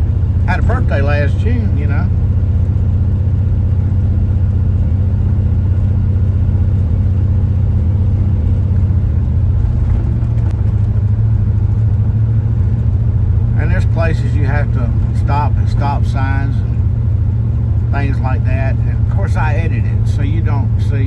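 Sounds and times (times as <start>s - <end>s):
engine droning: 0.0s - 21.0s
road noise: 0.0s - 21.0s.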